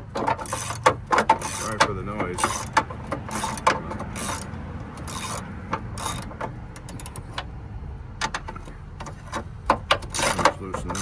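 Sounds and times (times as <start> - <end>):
ratchet wrench clicking: 0.0 - 7.5, 8.2 - 11.0.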